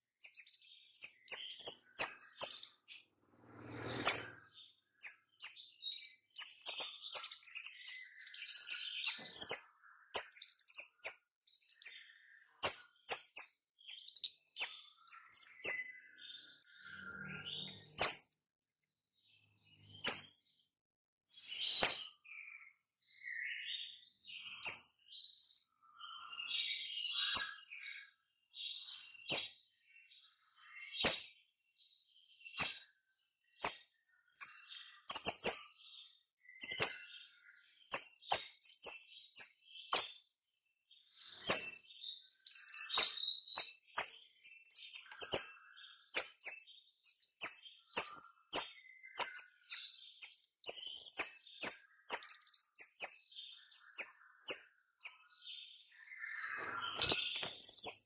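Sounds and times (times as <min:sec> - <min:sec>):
soft bird twittering: 0:00.0 - 0:18.4, 0:19.1 - 0:20.7, 0:21.3 - 0:40.3, 0:40.9 - 0:58.0.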